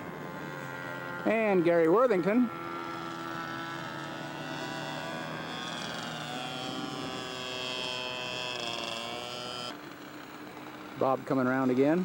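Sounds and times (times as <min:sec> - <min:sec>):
model airplane engine high pitched: 0:00.0 - 0:11.8.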